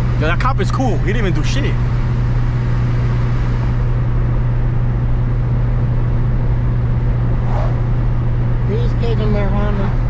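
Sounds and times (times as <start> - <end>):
car engine cruising: 0.0 - 10.0
road noise: 0.0 - 10.0.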